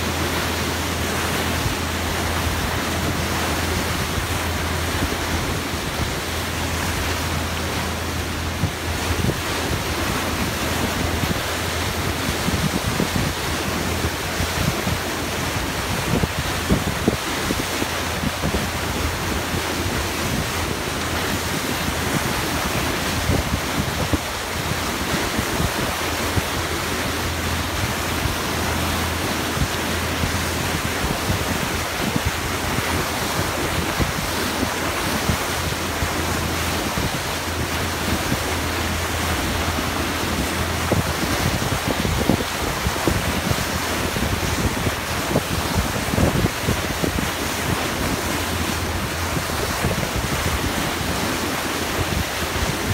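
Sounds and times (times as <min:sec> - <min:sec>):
water rushing against boat hull: 0:00.0 - 0:52.9
wind buffeting microphone: 0:00.0 - 0:52.9.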